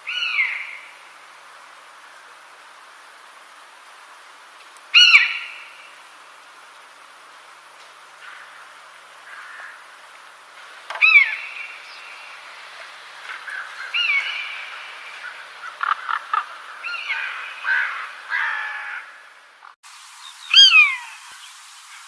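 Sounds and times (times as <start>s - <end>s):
birds calling: 0.0s - 22.0s
steady background hiss: 0.0s - 22.0s.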